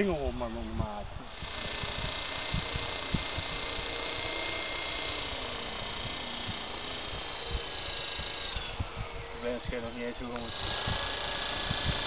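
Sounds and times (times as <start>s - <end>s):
toy helicopter motor whine: 0.0s - 12.0s.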